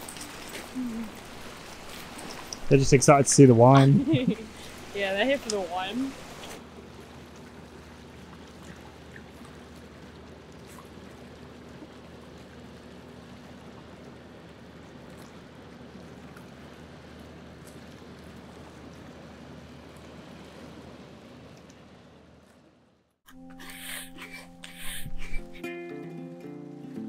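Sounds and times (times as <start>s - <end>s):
low even hum: 0.0s - 25.6s
small waves lapping: 0.0s - 25.7s.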